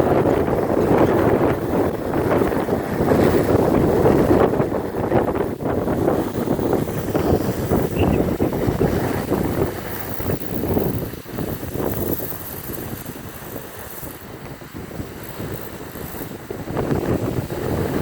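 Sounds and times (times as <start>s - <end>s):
strong wind buffeting microphone: 0.0s - 18.0s
windmill spinning whoosh: 0.0s - 18.0s.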